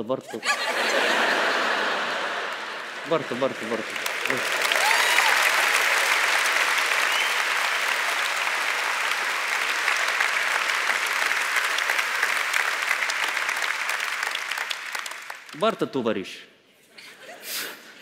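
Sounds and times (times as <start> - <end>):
audience applauding: 0.7 - 15.6.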